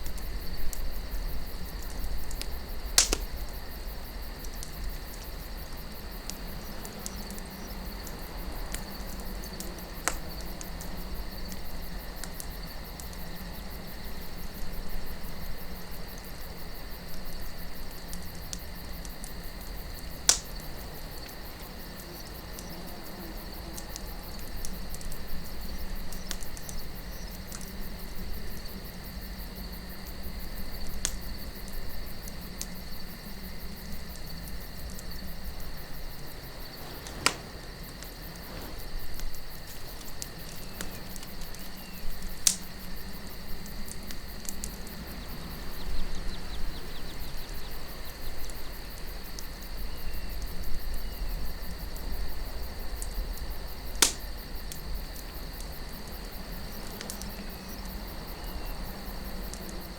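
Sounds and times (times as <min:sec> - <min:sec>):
campfire crackling: 0:00.0 - 0:59.9
crickets chirring: 0:00.0 - 0:59.9
low wind: 0:00.0 - 0:59.9
sharp pops of fire: 0:00.0 - 0:59.9.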